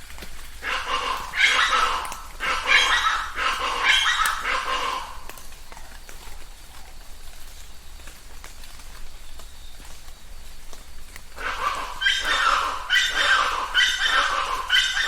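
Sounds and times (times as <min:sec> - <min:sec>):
light rain dripping: 0:00.0 - 0:15.0
birds calling in harsh chorus: 0:00.1 - 0:15.0.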